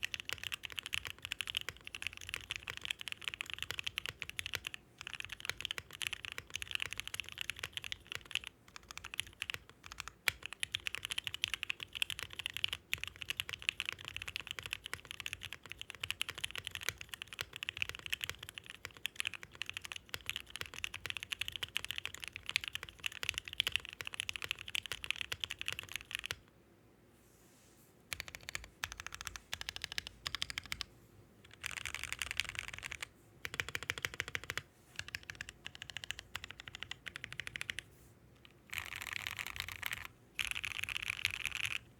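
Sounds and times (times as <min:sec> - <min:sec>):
mechanical keyboard typing: 0:00.0 - 0:26.5, 0:28.1 - 0:30.9, 0:31.5 - 0:37.8, 0:38.4 - 0:41.8.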